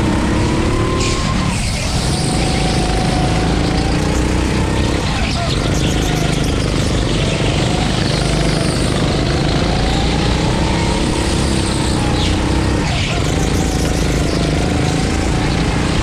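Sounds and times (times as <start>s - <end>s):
go-kart engine revving: 0.0s - 16.0s.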